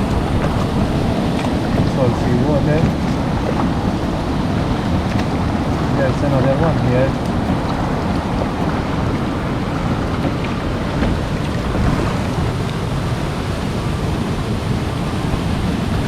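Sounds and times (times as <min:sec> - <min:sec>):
sea water rushing: 0:00.0 - 0:16.0
wind rumbling on microphone: 0:00.0 - 0:16.0.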